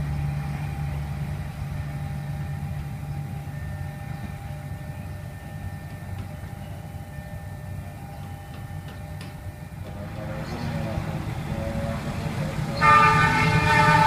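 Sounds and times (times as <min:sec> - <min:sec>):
faint steady tones: 0:00.0 - 0:14.0
vehicle engines idling: 0:00.0 - 0:14.0.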